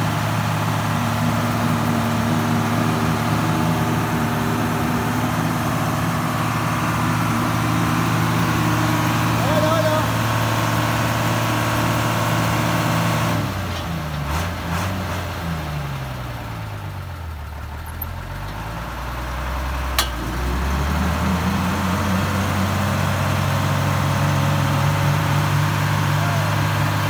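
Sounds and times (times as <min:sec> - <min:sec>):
diesel engine idling: 0:00.0 - 0:14.7, 0:15.3 - 0:27.0.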